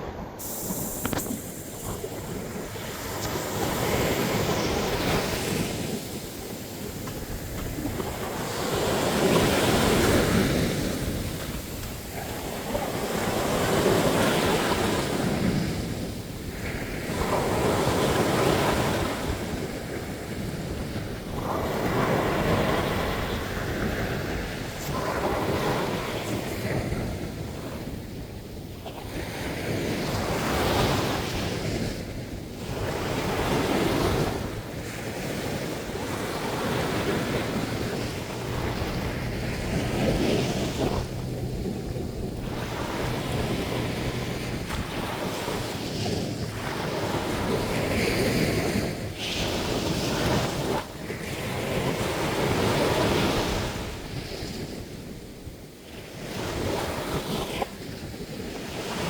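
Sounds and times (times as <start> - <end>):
waves breaking on a beach: 0.0 - 59.0
wind buffeting microphone: 0.0 - 59.0.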